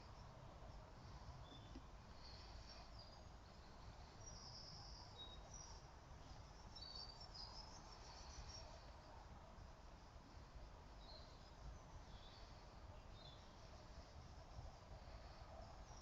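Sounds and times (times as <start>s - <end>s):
faint birdsong chirps: 0.0s - 16.0s
low steady hush: 0.0s - 16.0s.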